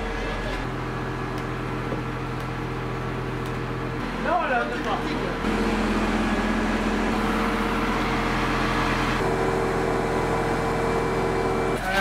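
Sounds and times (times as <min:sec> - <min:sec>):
crane engine humming: 0:00.0 - 0:11.8.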